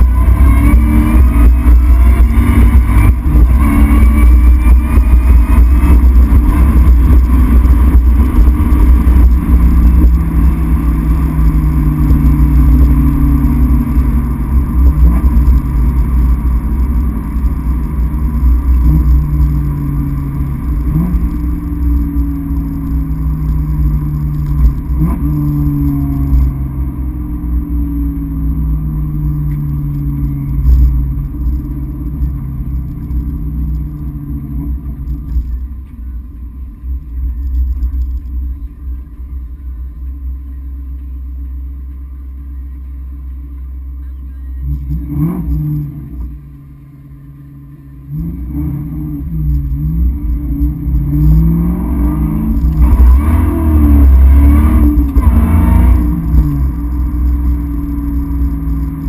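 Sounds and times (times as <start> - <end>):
car engine droning: 0.0 - 59.0
road rumble: 0.0 - 59.0.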